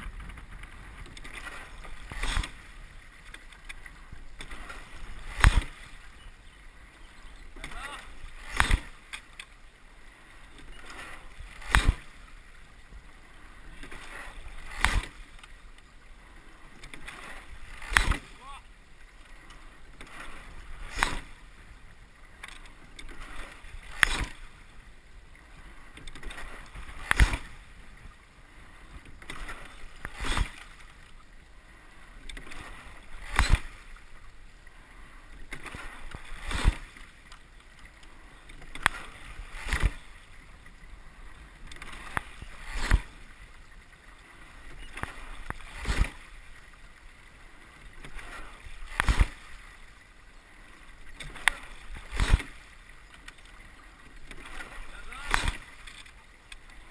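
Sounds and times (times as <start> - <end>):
oars clunking in oarlocks: 0.0 - 56.9
water washing along hull: 0.0 - 56.9.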